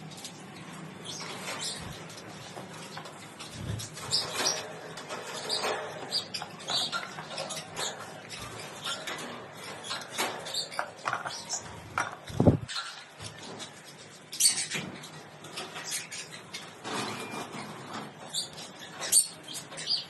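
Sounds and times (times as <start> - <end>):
parrots chirping and squeaking: 0.0 - 20.0.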